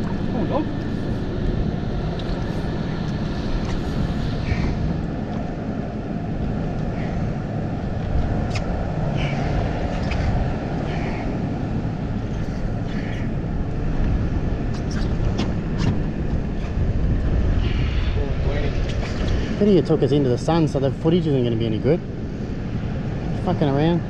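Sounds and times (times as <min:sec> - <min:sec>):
boat motor rumbling: 0:00.0 - 0:24.0.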